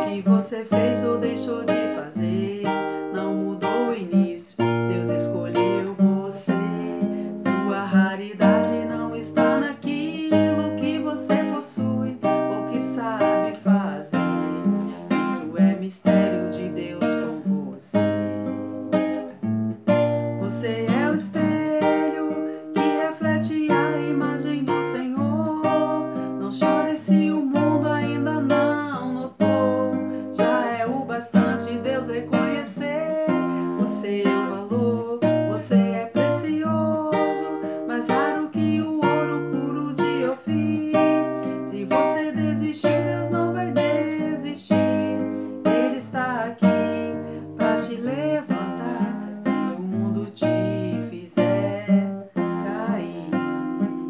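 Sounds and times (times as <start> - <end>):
classical guitar strumming: 0.0 - 54.0.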